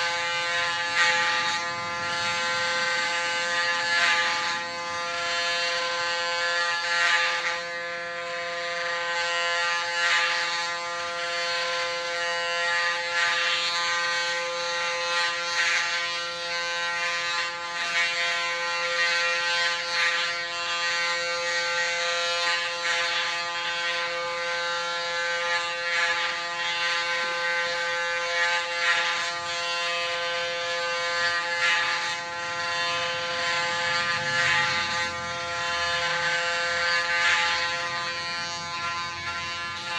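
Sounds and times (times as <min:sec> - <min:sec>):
clipper cutting hair rasp: 0:00.0 - 0:39.9
electric hair clipper buzzing: 0:00.0 - 0:39.9.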